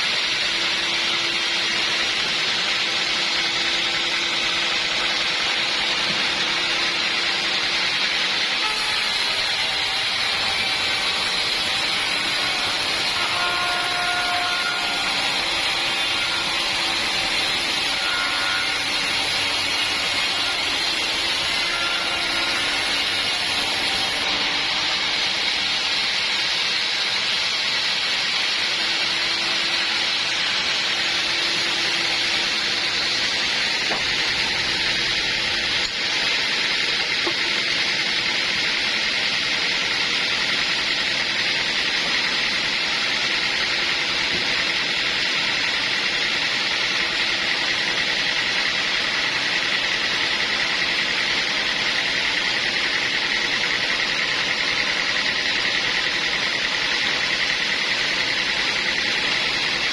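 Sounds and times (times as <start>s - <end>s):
higher-pitched sawing: 0.0s - 59.9s
sawmill cutting through log: 0.0s - 59.9s.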